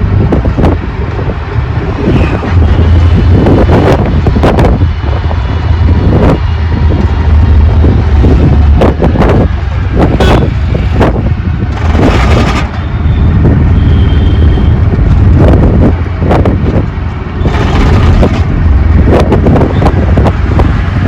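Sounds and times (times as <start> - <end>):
auto rickshaw engine drone: 0.0 - 21.0
road and wind noise: 0.0 - 21.0.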